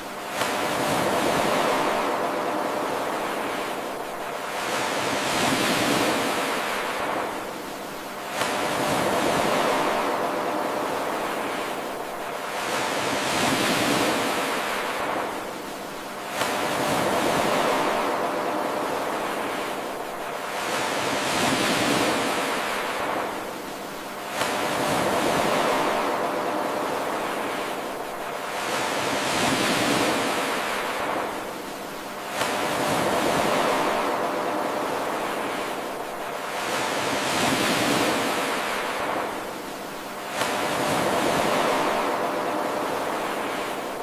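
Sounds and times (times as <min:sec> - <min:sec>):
ocean waves washing onto shore: 0:00.0 - 0:44.0.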